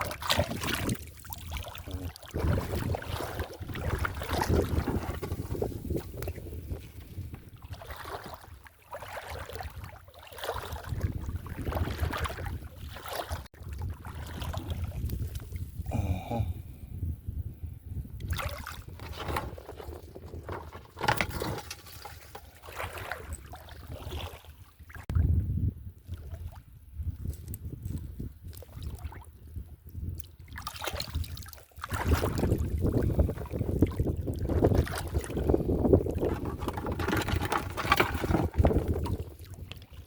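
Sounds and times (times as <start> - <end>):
water sloshing and splashing: 0.0 - 15.8, 18.2 - 25.2, 27.2 - 29.3, 30.1 - 40.0.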